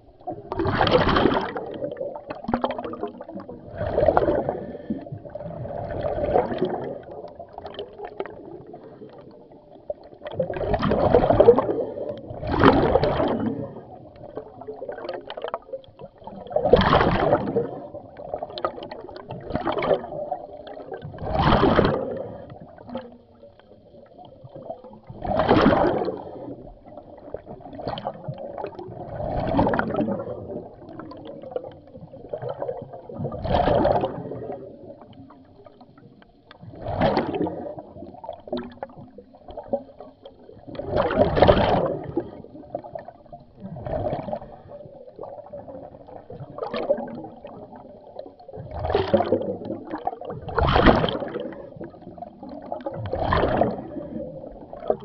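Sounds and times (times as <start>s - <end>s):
underwater bubbles gurgling: 0.0s - 55.0s.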